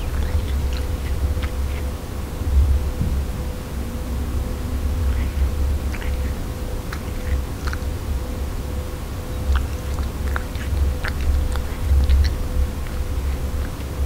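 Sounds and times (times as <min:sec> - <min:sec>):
cat chewing and licking: 0:00.0 - 0:03.0, 0:04.8 - 0:14.0
faint steady hum: 0:00.0 - 0:14.0.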